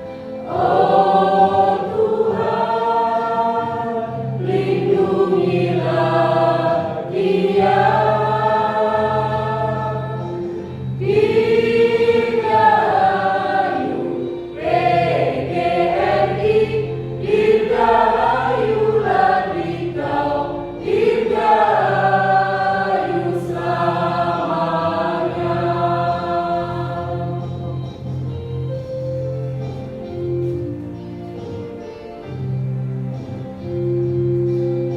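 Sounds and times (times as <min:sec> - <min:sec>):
choir singing: 0:00.0 - 0:28.2
held low accompaniment notes: 0:00.0 - 0:34.9.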